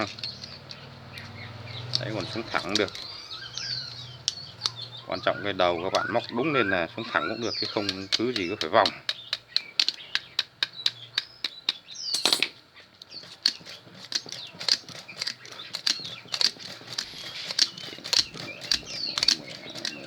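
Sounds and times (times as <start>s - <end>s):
wire clicking into slots: 0.0s - 5.0s, 5.8s - 20.0s.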